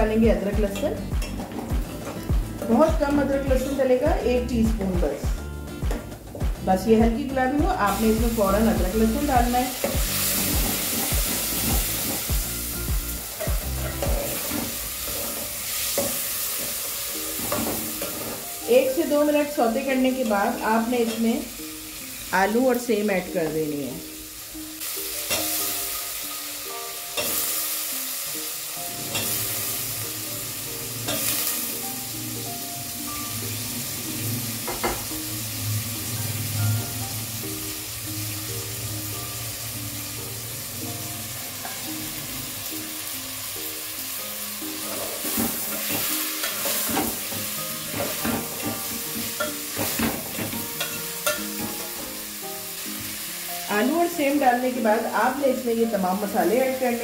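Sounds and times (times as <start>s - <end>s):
vegetables sizzling in hot oil: 5.8s - 57.0s.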